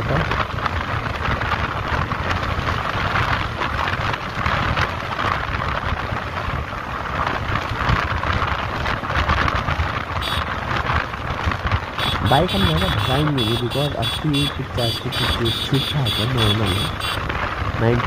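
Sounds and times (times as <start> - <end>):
tyres on road: 0.0 - 18.0
wind rushing over microphone: 0.0 - 18.0
motorcycle engine running: 0.2 - 18.0.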